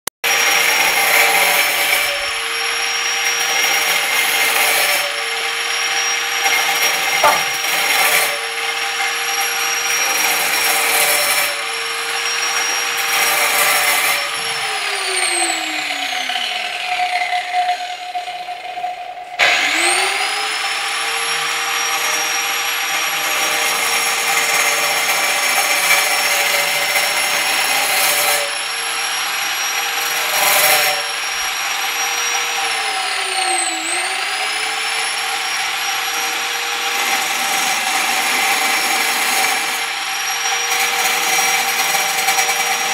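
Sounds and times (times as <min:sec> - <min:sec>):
angle grinder whining and grinding: 0:00.3 - 0:42.9.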